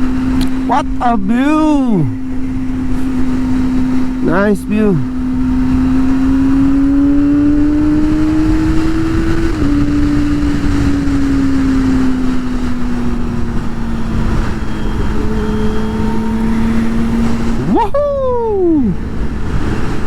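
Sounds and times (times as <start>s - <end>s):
motorcycle engine at high revs: 0.0s - 20.0s
wind noise: 0.0s - 20.0s.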